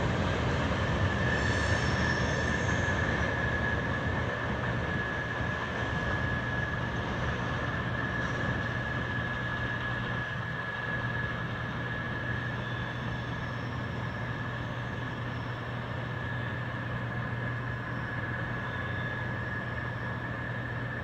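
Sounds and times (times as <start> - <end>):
freight train rumbling by: 0.0 - 21.0
high-pitched whine: 0.0 - 21.0.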